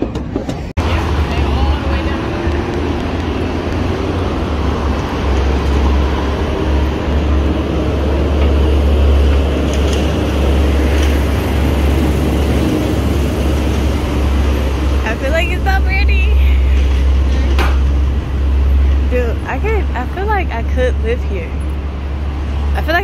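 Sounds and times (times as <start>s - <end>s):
city street traffic rumble: 0.0s - 23.0s.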